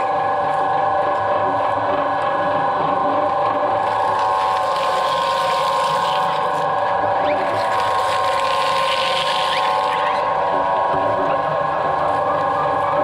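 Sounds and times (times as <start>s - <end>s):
coconut shell crackling in shredder: 0.0s - 13.0s
shredder motor whine: 0.0s - 13.0s.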